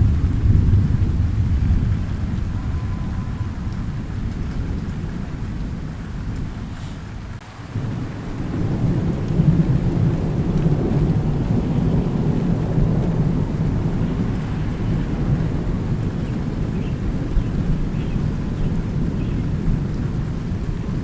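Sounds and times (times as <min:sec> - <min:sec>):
low rolling thunder: 0:00.0 - 0:21.0
steady rain: 0:00.0 - 0:21.0.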